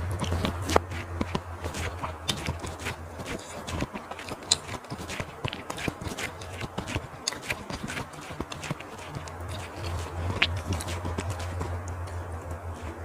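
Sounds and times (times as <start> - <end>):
chewing food: 0.0 - 13.0.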